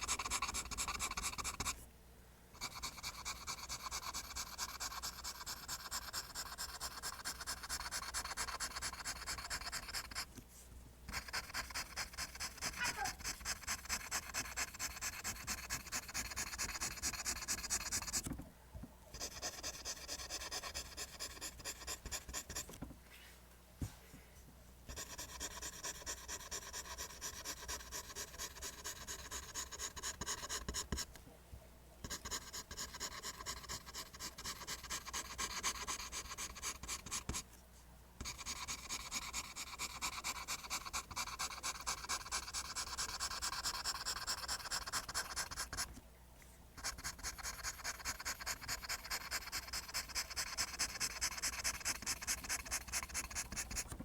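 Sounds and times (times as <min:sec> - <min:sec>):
pencil scratching on paper: 0:00.0 - 0:01.8, 0:02.6 - 0:10.3, 0:11.1 - 0:18.3, 0:19.2 - 0:22.8, 0:24.9 - 0:31.1, 0:32.0 - 0:37.4, 0:38.2 - 0:45.9, 0:46.8 - 0:54.0.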